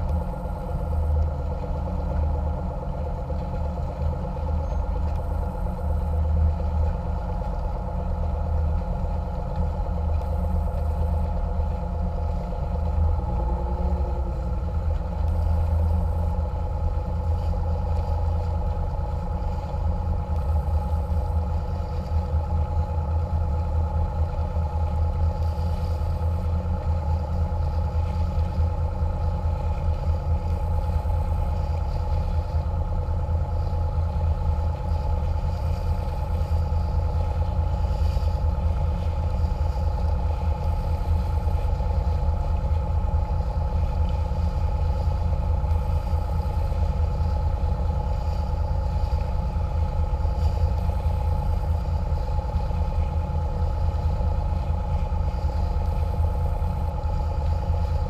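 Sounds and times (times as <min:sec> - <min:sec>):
boat engine droning: 0:00.0 - 0:58.0
engine whine: 0:00.0 - 0:58.0.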